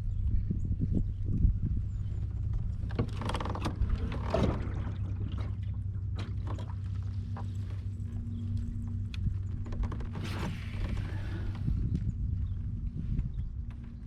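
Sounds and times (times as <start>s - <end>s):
kayak rumbling on water: 0.1s - 14.0s.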